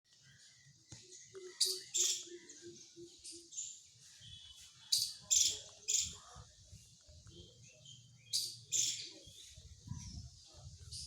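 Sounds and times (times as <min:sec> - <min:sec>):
birds twittering: 0:00.1 - 0:11.0.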